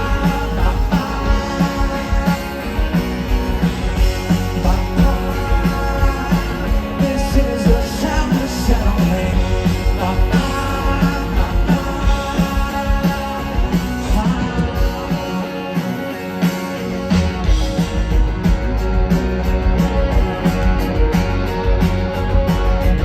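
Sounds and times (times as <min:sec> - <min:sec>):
live rock band playing: 0:00.0 - 0:23.0
quick drum beat: 0:00.0 - 0:23.0.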